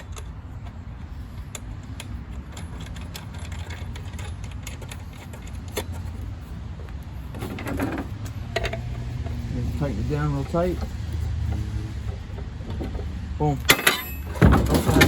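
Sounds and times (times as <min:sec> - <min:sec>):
metallic clicks and clinks: 0:00.0 - 0:15.0.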